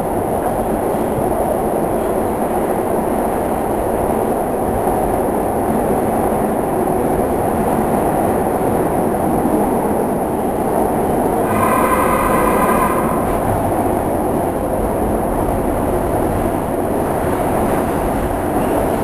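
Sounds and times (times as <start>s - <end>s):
subway car rumbling in tunnel: 0.0s - 19.0s.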